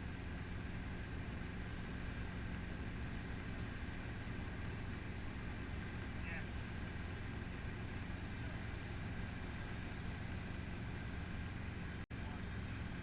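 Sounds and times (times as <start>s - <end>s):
helicopter rotor and engine noise: 0.0s - 13.0s.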